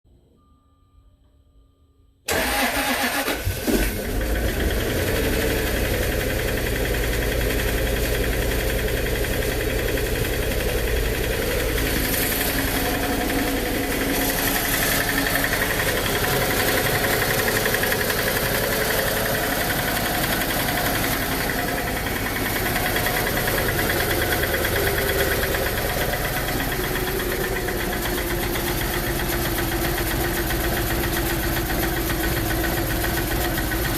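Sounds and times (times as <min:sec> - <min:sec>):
car engine running with fault noise: 0:02.3 - 0:33.9.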